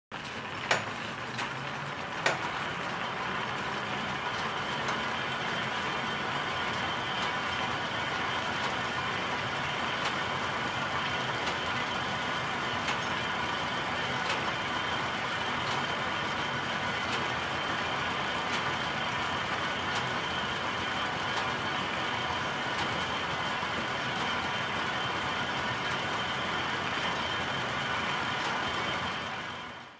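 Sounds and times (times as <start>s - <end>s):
spindles whirring hum: 0.2s - 29.9s.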